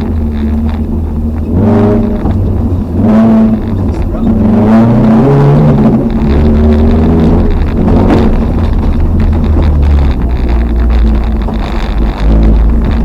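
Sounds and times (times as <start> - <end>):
car engine running hard: 0.0 - 13.0
car knocks and rattles: 0.0 - 13.0.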